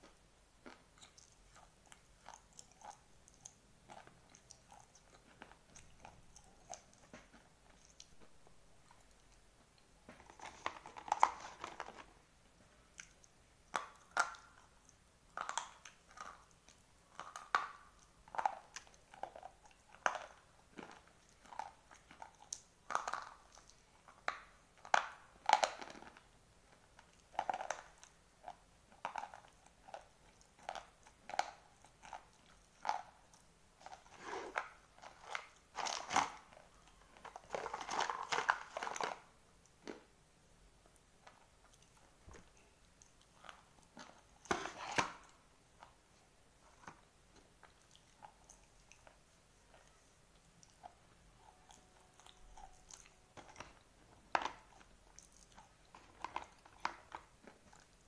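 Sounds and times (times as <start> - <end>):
soft chewing: 0.0 - 58.0.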